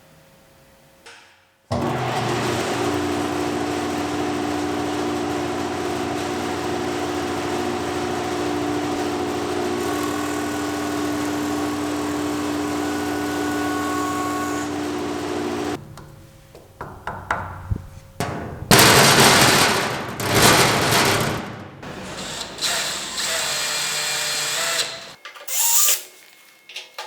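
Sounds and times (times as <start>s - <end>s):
jointer machine whirring: 1.7s - 25.8s.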